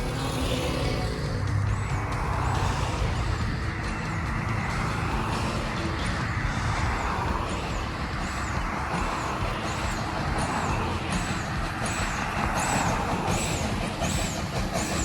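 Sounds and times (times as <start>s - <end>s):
steam train rumble and hiss: 0.0s - 15.0s.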